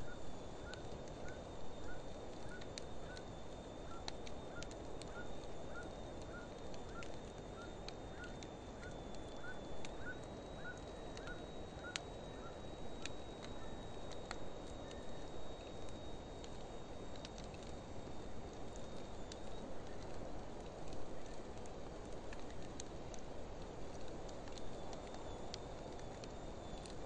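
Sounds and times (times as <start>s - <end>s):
campfire hissing and crackling: 0.0s - 27.0s.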